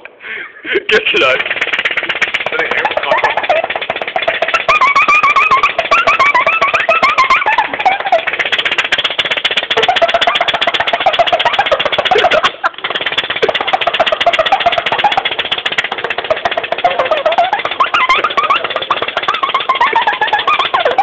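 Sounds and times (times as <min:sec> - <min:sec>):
pneumatic valves rattling: 0:01.0 - 0:21.0
warbling tone: 0:01.1 - 0:21.0.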